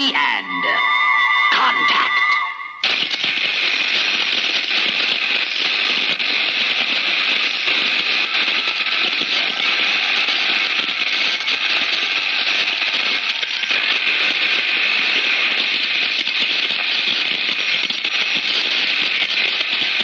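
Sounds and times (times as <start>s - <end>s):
loud static-like hiss: 2.8s - 20.0s.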